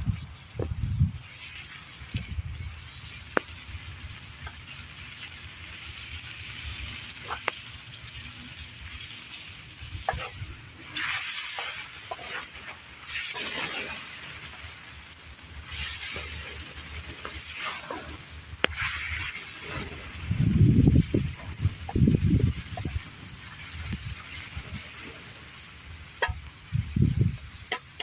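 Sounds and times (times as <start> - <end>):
meat sizzling in a wok: 0.0 - 28.0.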